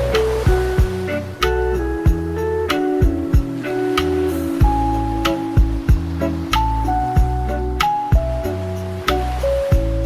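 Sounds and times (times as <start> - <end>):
gentle lofi music: 0.0 - 10.0.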